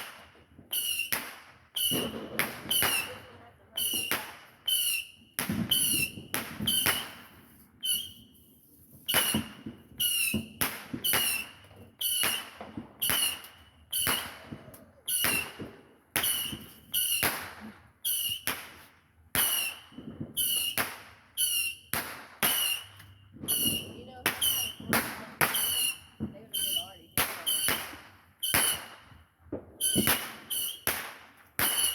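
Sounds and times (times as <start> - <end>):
fireworks cracking and whistling: 0.0 - 31.9.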